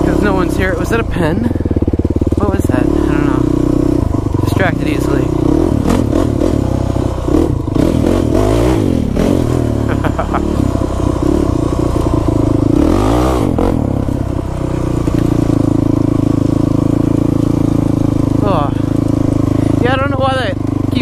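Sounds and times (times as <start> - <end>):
quad engine idling and revving: 0.0 - 21.0.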